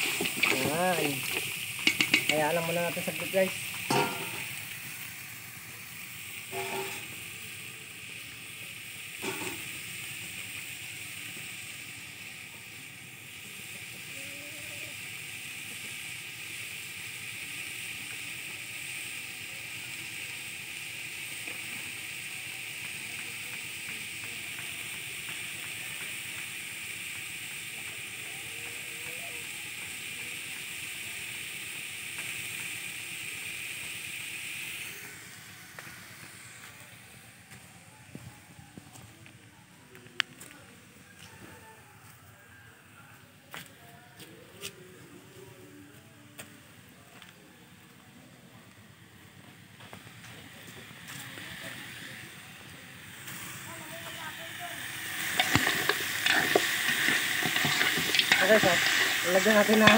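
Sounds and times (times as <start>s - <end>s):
meat sizzling in a pot: 0.0s - 43.3s, 46.4s - 59.9s.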